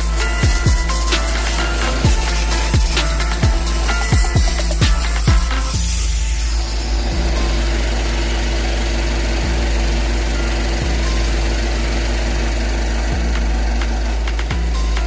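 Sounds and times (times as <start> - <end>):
music with deep sub-bass: 0.0 - 15.0
pitch-dropping bass hits: 0.0 - 15.0.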